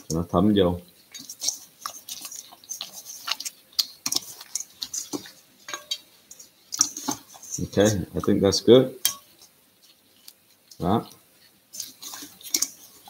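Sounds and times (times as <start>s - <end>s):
hands kneading meat in steel bowl: 0.0s - 13.0s.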